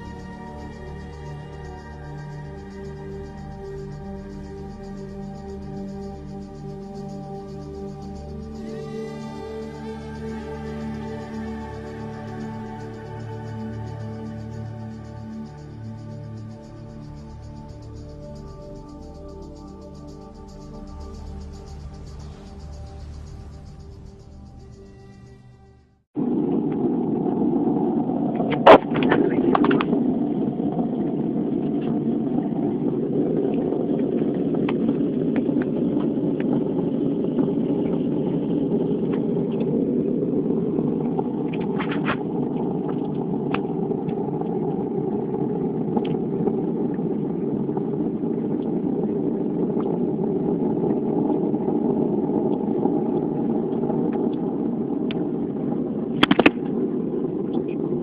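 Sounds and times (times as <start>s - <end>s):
low droning hum: 0.0s - 58.0s.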